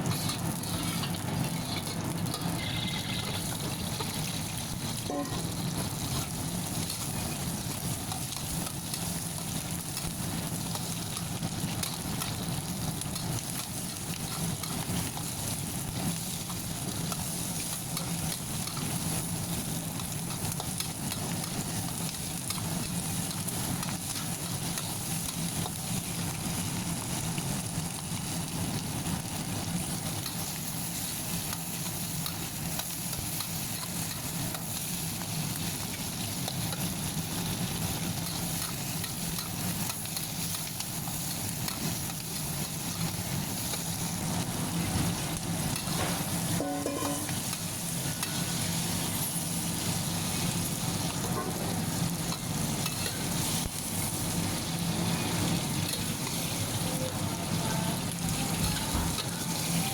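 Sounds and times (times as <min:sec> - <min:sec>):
food sizzling in hot oil: 0:00.0 - 0:59.9
utensil stirring in pan: 0:00.0 - 0:59.9.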